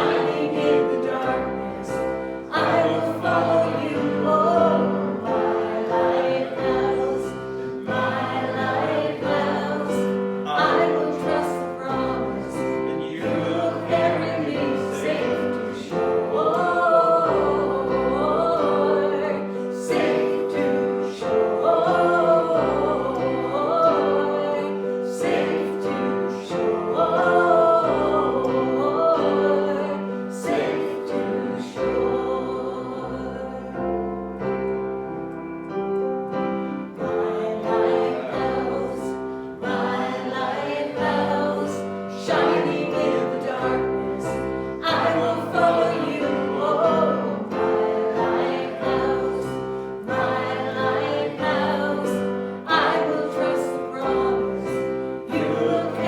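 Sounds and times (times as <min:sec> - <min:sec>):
congregation singing: 0:00.0 - 0:56.0
piano accompaniment: 0:00.0 - 0:56.0.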